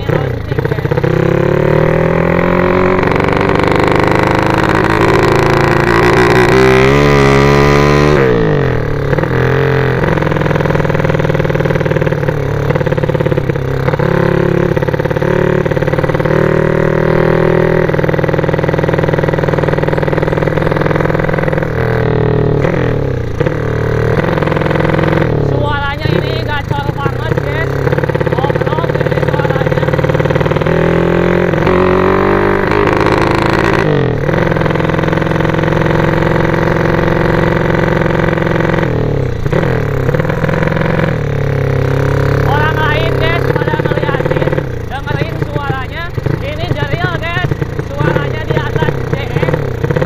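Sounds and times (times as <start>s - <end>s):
small motorcycle engine revving: 0.0s - 50.0s.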